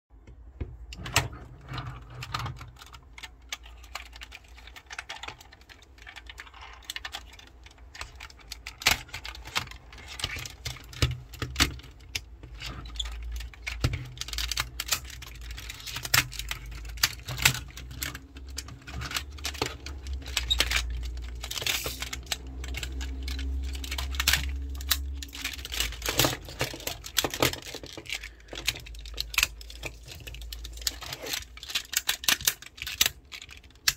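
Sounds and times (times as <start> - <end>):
plastic toy parts clicking: 0.4 - 33.9
rubbing and handling noise: 0.4 - 33.9.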